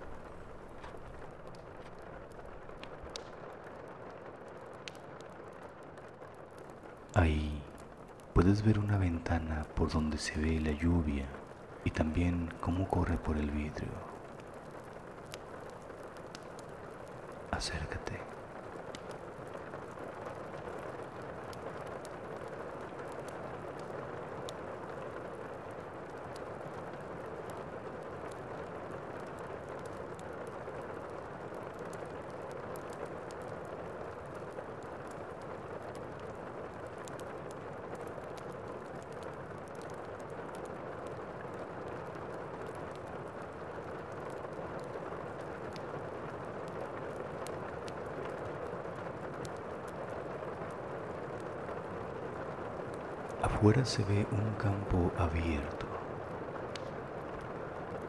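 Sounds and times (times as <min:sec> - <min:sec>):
rain drops ticking: 0:00.0 - 0:58.0
rain hissing: 0:00.0 - 0:58.0.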